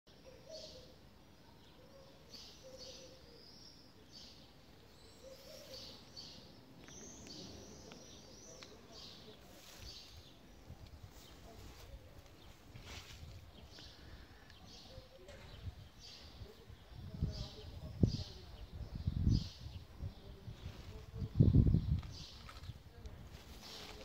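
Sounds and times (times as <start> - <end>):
outdoor background noise: 0.1 - 24.0
small birds chirping: 0.1 - 24.0.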